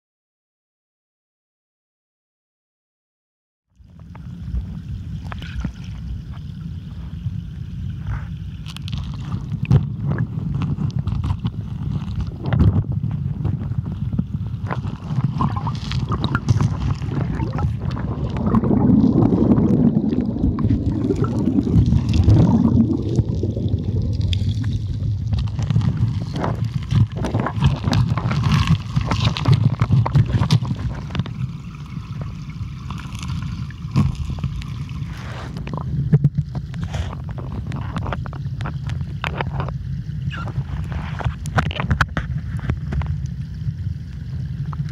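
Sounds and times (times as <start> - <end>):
clicks and gurgles: 3.8 - 7.2, 8.0 - 44.9
muffled underwater river current: 3.8 - 44.9.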